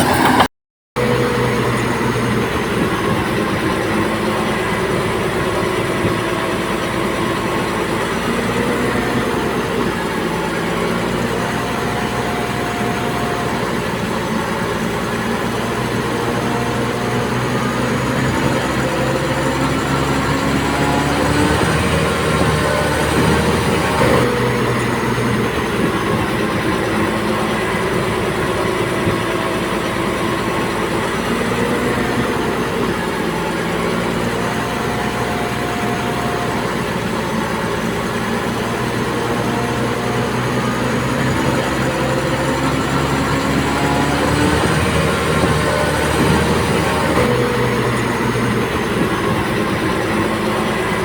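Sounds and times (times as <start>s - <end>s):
bulldozer diesel engine running: 0.0s - 51.0s
steel crawler tracks running: 0.0s - 51.0s.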